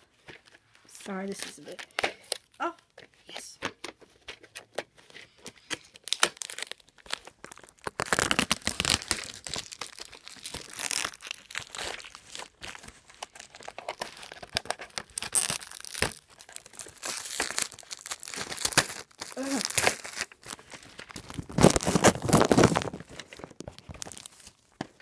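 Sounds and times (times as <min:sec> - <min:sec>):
plastic shrink wrap tearing: 0:04.0 - 0:25.0.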